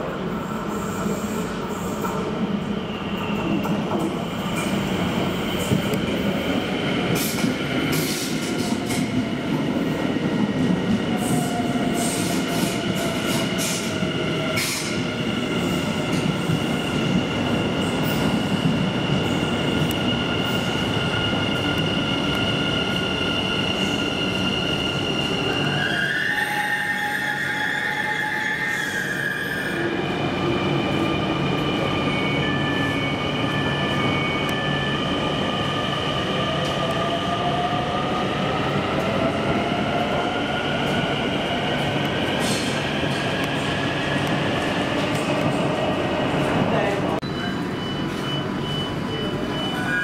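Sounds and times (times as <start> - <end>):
train wheels rumbling on rail: 0.0 - 47.2.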